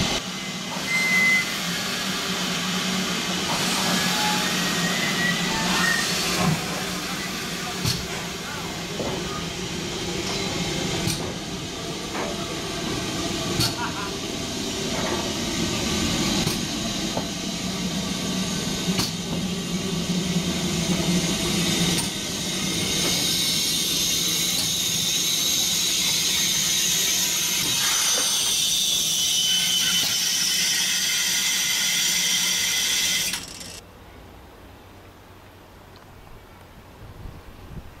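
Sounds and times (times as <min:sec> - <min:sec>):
steam hissing: 0:00.0 - 0:33.8.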